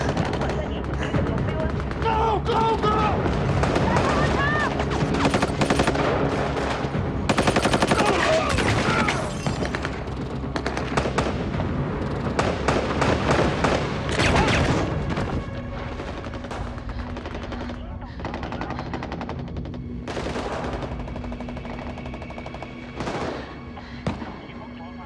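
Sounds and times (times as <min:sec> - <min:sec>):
gunfire: 0:00.0 - 0:24.5.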